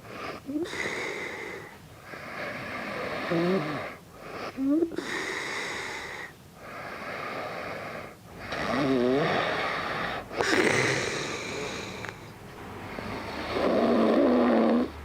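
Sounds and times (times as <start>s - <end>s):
man breathing loudly and snoring: 0.0s - 15.0s.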